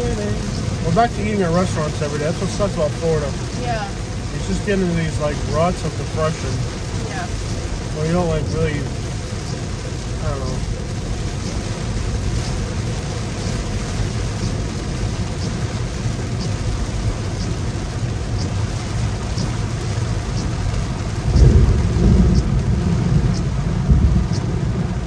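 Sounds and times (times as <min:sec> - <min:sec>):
heavy rain on a car: 0:00.0 - 0:25.0
road noise: 0:00.0 - 0:25.0.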